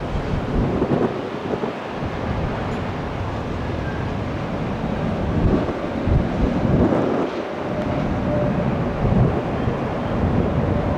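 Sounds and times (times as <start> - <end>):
airliner roar: 0.0 - 10.9.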